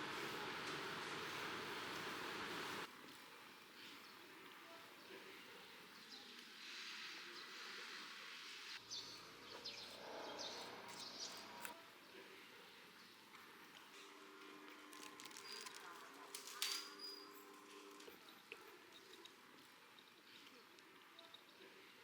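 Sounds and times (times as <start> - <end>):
faint outdoor background noise: 0.0 - 22.0.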